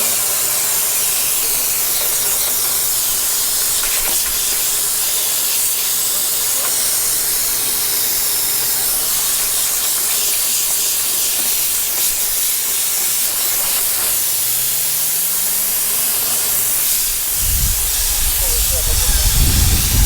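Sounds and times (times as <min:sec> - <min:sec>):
rushing air hiss: 0:00.0 - 0:20.0.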